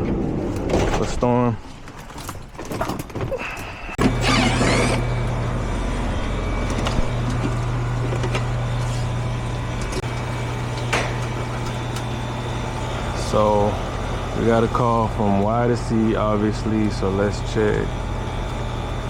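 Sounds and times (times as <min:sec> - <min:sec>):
heat pump humming: 0:03.1 - 0:19.0
heat pump rush: 0:03.4 - 0:19.0.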